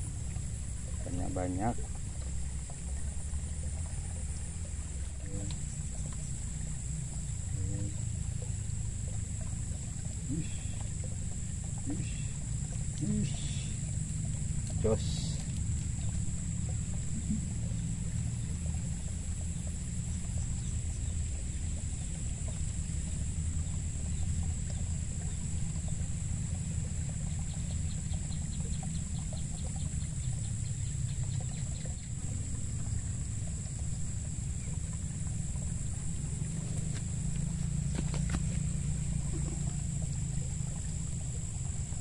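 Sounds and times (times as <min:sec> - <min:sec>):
insects chirring: 0:00.0 - 0:42.0
low steady rumble: 0:00.0 - 0:42.0.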